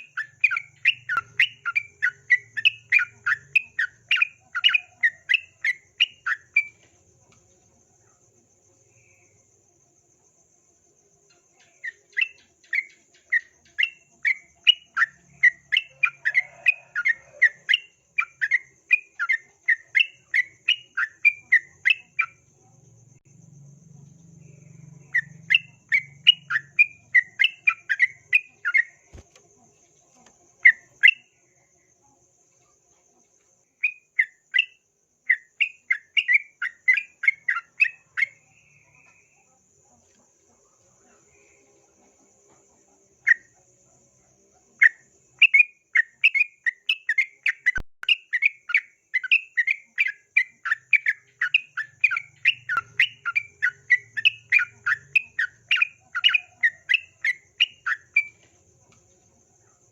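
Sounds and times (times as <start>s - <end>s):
faint high insect trill: 0.0s - 59.9s.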